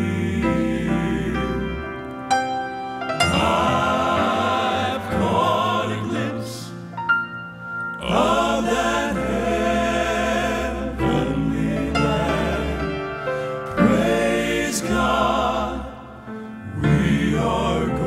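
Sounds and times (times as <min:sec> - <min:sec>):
male quartet singing in harmony: 0:00.0 - 0:02.2, 0:03.2 - 0:06.9, 0:08.0 - 0:18.0
grand piano accompaniment: 0:00.0 - 0:18.0.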